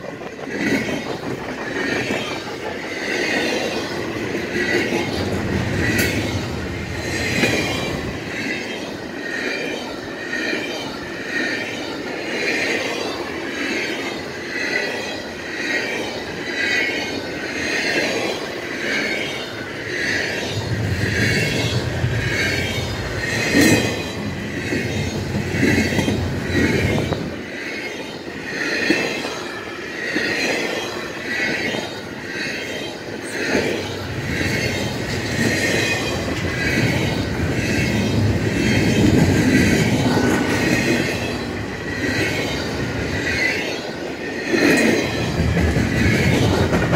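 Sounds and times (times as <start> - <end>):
train rolling rumble: 0.0 - 46.9
train wheels clicking: 0.0 - 46.9.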